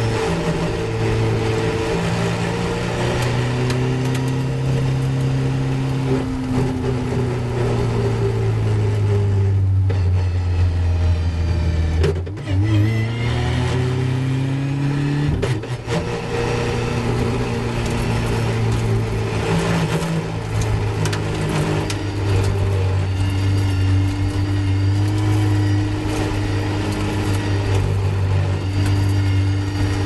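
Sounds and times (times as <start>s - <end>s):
race car engine accelerating: 0.0s - 30.0s.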